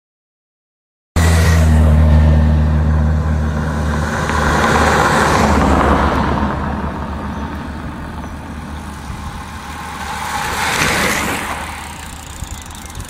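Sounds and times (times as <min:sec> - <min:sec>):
tyre and road noise: 0:01.2 - 0:13.0
van engine hum: 0:01.2 - 0:13.0.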